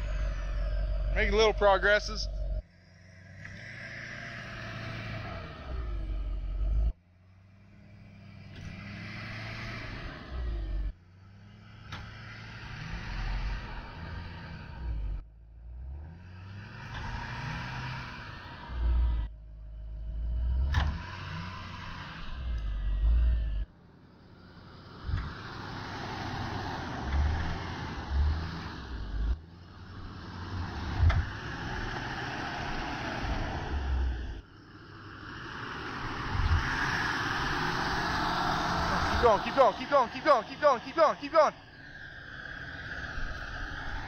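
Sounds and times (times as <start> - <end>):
truck engines working under load: 0.0 - 44.0.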